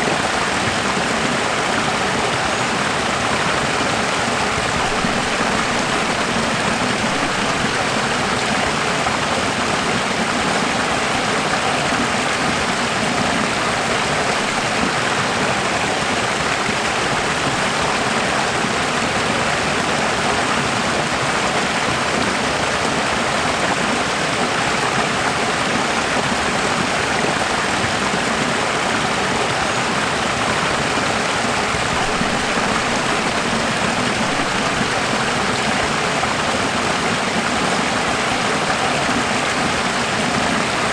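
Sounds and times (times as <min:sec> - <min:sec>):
running water stream: 0:00.0 - 0:40.9.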